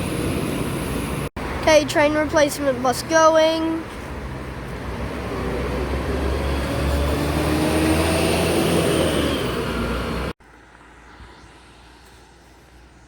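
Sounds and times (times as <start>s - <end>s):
bus engine accelerating: 0.0s - 13.0s
outdoor background noise: 0.0s - 13.0s.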